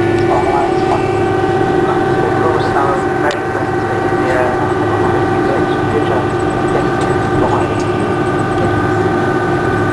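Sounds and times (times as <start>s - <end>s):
aircraft cabin rumble: 0.0s - 9.9s
engine whining tones: 0.0s - 9.9s.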